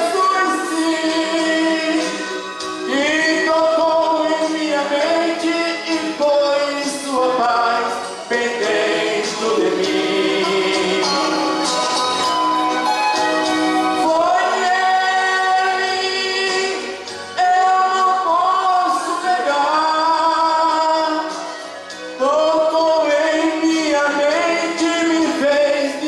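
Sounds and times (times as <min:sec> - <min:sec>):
man singing gospel song: 0:00.0 - 0:12.0, 0:14.0 - 0:26.0.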